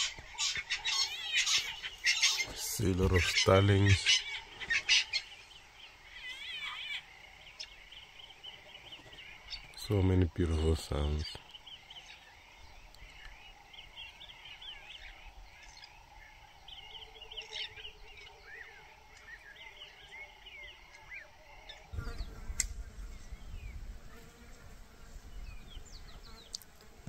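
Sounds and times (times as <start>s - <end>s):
birds chirping and whistling: 0.0s - 24.2s.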